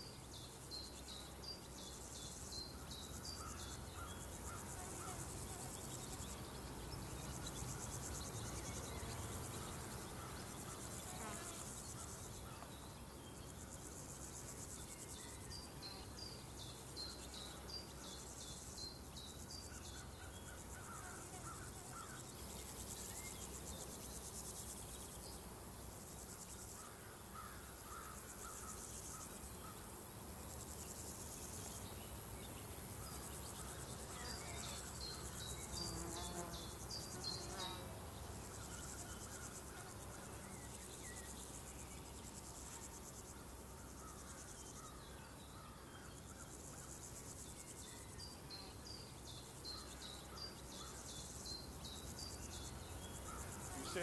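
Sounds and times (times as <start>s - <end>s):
high-pitched insect buzz: 0.0s - 54.0s.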